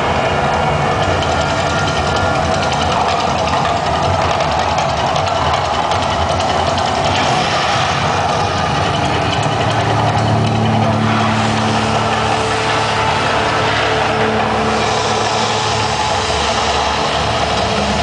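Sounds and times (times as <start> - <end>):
deep rumble of volcano show: 0.0 - 18.0.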